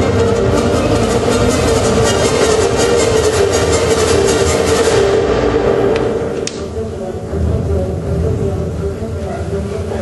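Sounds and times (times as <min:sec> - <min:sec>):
loud music with heavy bass: 0:00.0 - 0:10.0.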